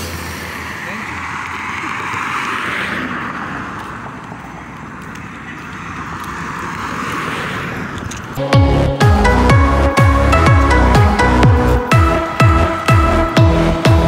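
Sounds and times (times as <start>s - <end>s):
cars driving past on concrete: 0.0s - 14.0s.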